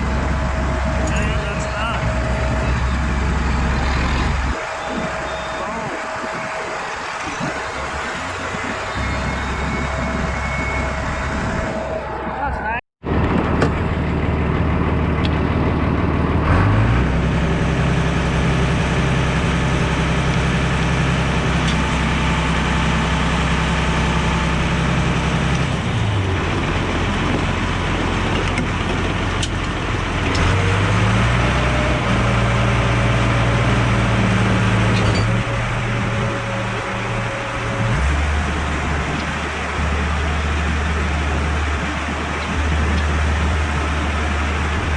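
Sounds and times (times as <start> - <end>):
tractor engine revving: 0.0 - 12.4, 13.0 - 44.9.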